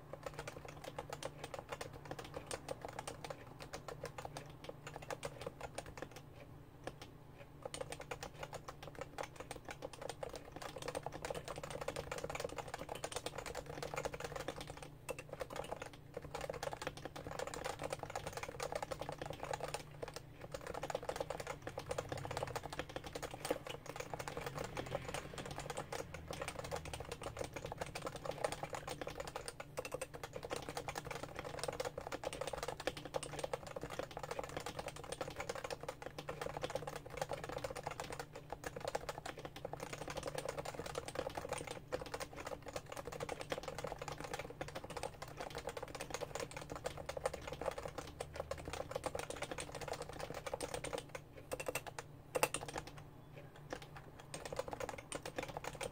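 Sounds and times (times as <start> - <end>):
fast keyboard typing: 0.0 - 55.9.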